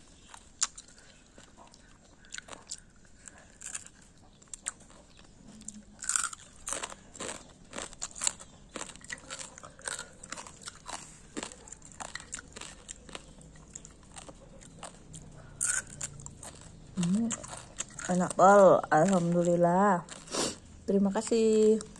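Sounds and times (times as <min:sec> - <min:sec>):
chewing with crisp crunches: 0:00.0 - 0:21.9.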